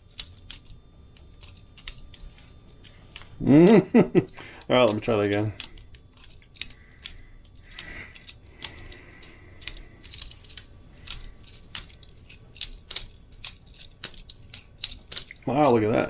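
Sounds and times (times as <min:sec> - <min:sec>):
butterfly knife clicking: 0:00.1 - 0:15.8.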